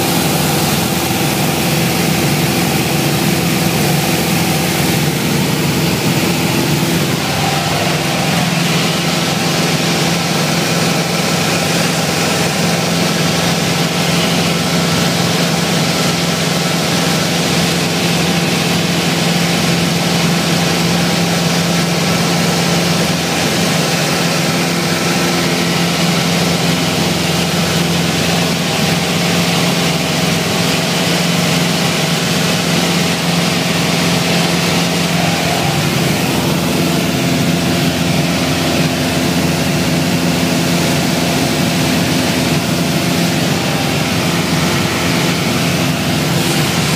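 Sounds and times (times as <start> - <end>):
airplane engine and propeller droning: 0.0 - 46.9.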